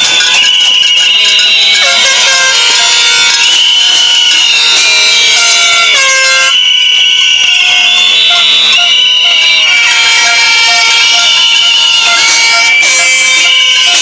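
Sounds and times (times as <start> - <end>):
air horns blasting: 0.0 - 14.0.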